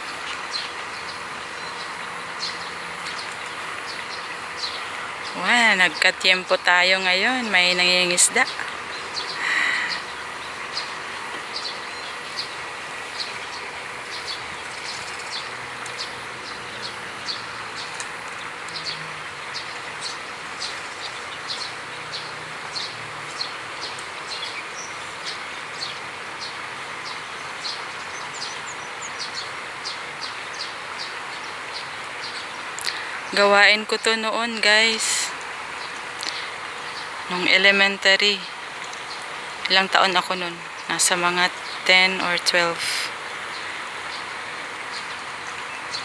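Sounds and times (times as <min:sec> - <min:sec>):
steady rushing hiss: 0:00.0 - 0:46.0.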